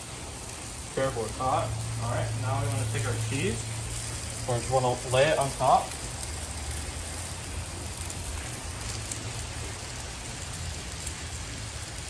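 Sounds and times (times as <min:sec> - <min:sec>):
low steady hum: 0:00.0 - 0:12.0
steak and onions sizzling on griddle: 0:00.0 - 0:12.0.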